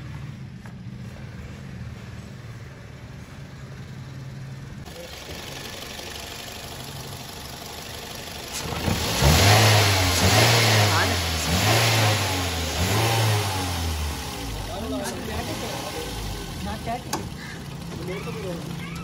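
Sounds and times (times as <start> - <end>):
car engine humming and revving: 0.0 - 19.0.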